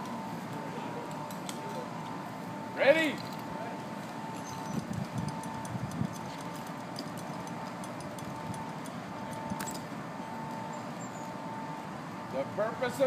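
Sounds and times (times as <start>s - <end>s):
faint steady tone: 0.0s - 13.0s.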